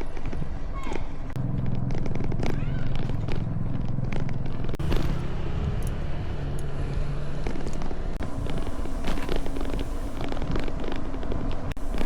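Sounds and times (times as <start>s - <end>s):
road noise: 0.0s - 12.0s
vehicle engine running: 1.3s - 12.0s.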